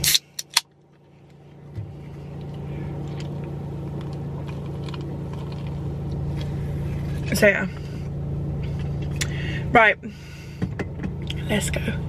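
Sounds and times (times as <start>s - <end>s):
car engine hum: 0.0s - 12.0s
road noise inside car: 0.0s - 12.0s.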